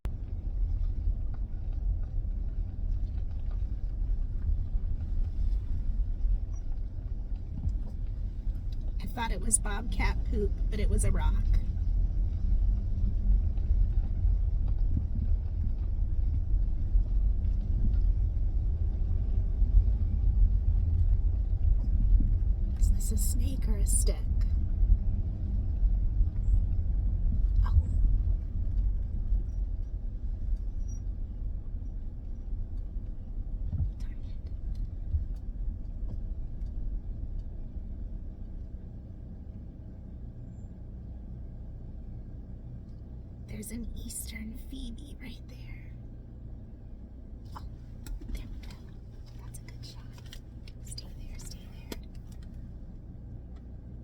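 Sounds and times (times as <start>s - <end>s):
vehicle driving slowly: 0.0s - 54.0s.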